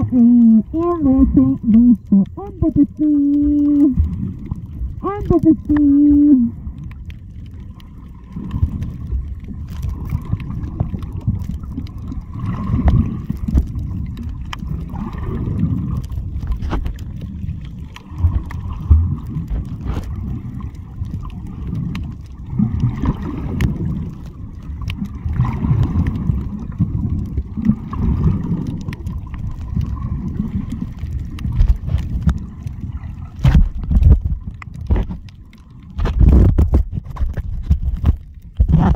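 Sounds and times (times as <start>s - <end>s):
muffled underwater water sloshing: 0.0s - 38.9s.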